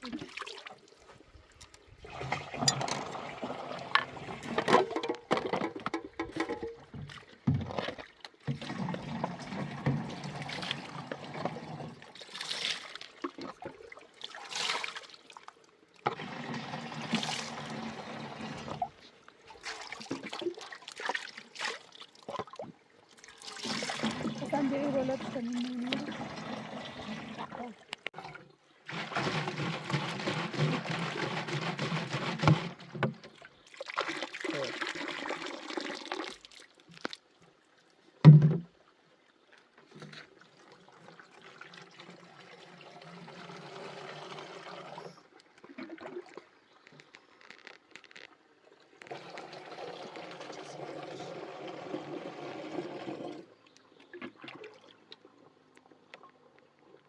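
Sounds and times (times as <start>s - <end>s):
water pouring into container: 1.8s - 5.4s, 7.7s - 37.2s, 40.3s - 46.8s, 48.9s - 55.4s.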